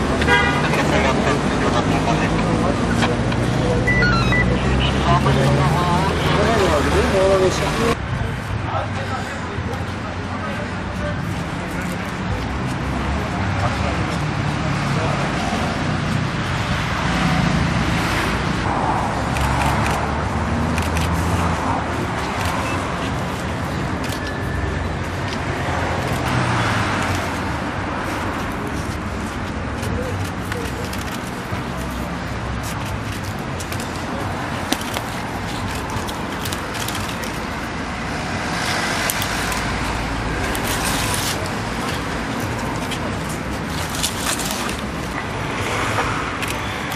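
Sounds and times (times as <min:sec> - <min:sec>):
passing vehicles rushing: 0:00.0 - 0:46.9
road traffic hum: 0:00.0 - 0:46.9.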